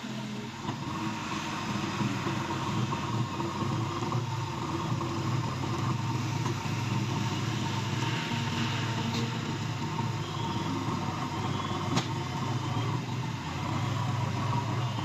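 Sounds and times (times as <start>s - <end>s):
diesel engine running: 0.0s - 15.0s
thin steady whine: 0.0s - 15.0s.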